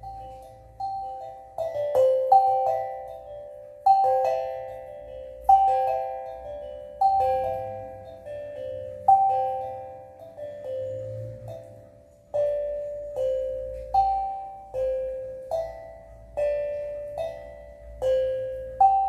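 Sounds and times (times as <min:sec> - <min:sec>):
steel tongue drum notes: 0:00.0 - 0:19.0.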